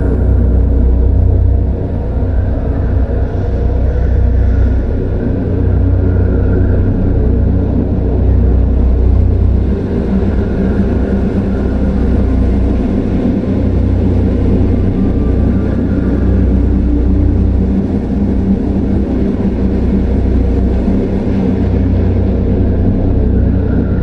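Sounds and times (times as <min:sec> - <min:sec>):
deep rumbling drone: 0:00.0 - 0:24.0
faint higher hum: 0:00.0 - 0:24.0.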